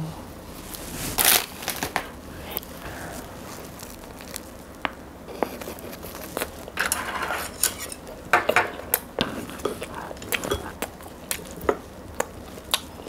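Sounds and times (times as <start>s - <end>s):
bread crust crunching: 0.6s - 13.0s
crackles of chewing: 0.7s - 6.8s, 7.9s - 13.0s.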